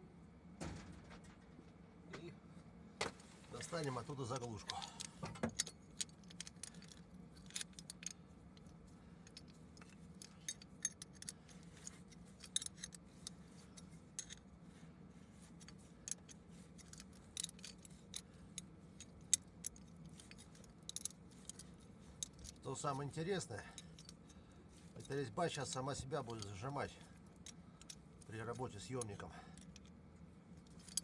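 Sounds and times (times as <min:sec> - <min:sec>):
faint low hum: 0:00.0 - 0:31.0
light metallic clicks and clinks: 0:03.5 - 0:14.5, 0:15.5 - 0:30.0, 0:30.6 - 0:31.0.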